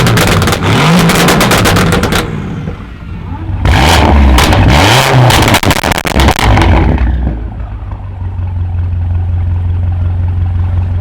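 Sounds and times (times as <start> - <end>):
car engine idling: 0.0 - 4.7, 5.6 - 11.0
car exhaust crackling and popping: 0.0 - 11.0.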